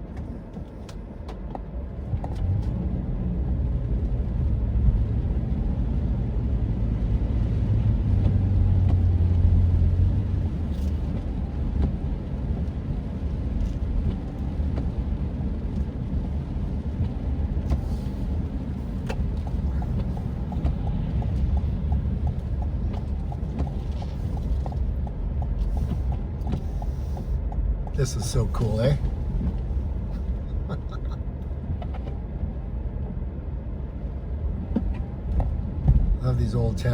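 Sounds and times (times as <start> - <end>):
car engine and road rumble: 0.0 - 36.9.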